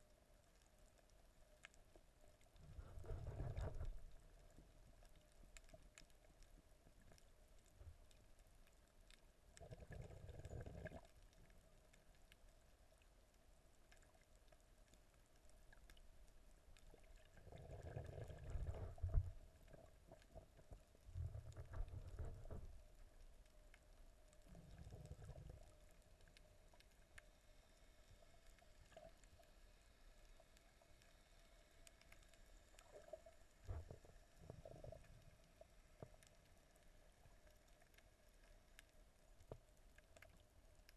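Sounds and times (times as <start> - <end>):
faint clicks: 0.0 - 40.9
underwater water sloshing: 0.3 - 40.9.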